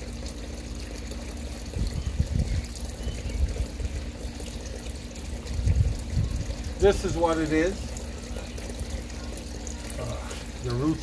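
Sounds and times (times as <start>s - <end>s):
pump humming: 0.0s - 11.0s
water trickling: 0.0s - 11.0s.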